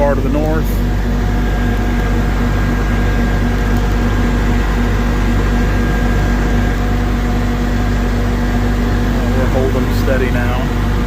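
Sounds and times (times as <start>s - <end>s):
diesel truck engine running: 0.0s - 11.0s
hydraulic whine: 0.0s - 11.0s.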